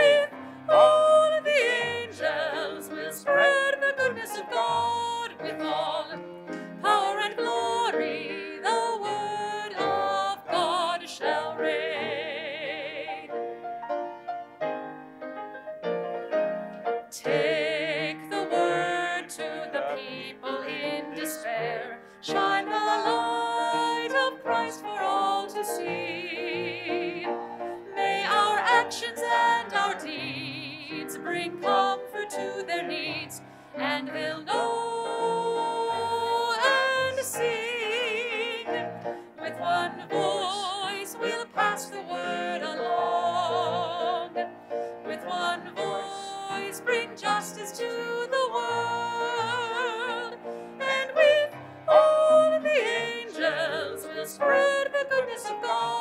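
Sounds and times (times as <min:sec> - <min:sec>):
person singing a hymn with vibrato: 0:00.0 - 0:13.4, 0:17.1 - 0:56.0
grand piano: 0:00.0 - 0:56.0.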